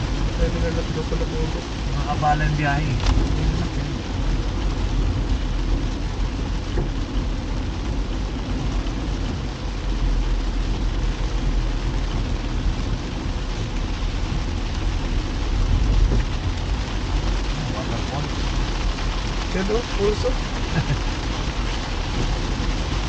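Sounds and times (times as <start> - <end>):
car rumble: 0.0 - 23.0
rain and wet-road noise: 0.0 - 23.0.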